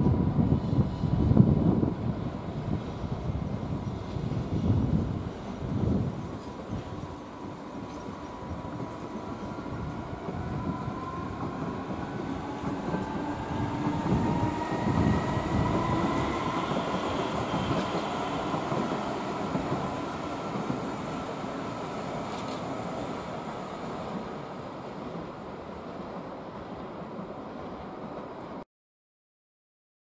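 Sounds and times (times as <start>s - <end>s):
train wheels rumbling: 0.0s - 28.3s.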